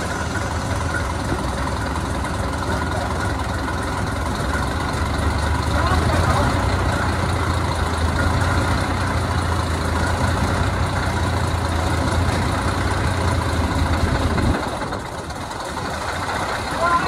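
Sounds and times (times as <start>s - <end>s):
diesel locomotive engine droning: 0.0s - 17.0s.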